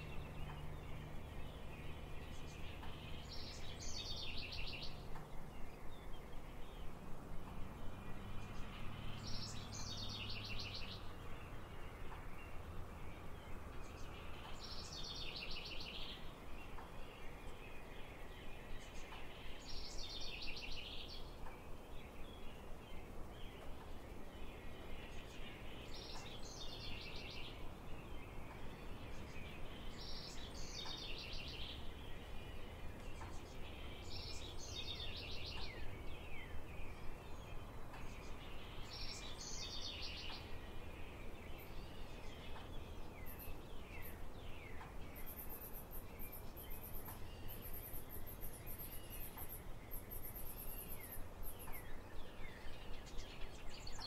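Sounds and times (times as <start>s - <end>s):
low outdoor background hum: 0.0s - 54.0s
songbird singing: 0.0s - 54.0s.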